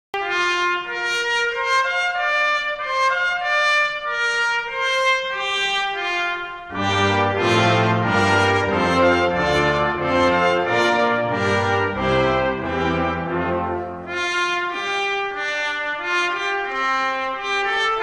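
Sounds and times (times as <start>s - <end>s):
instrumental melody of held notes: 0.2s - 18.0s.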